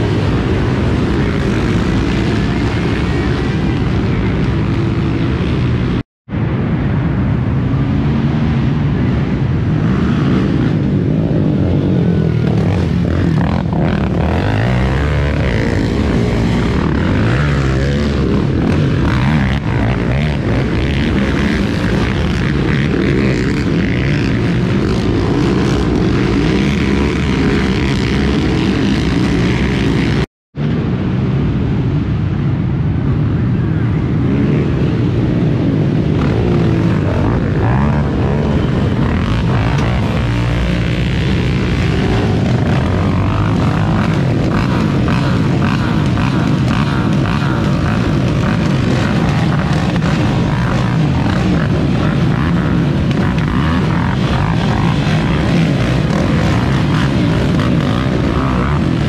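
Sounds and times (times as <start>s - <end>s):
quad engines revving: 0.0s - 6.0s, 8.1s - 30.3s, 34.2s - 59.0s.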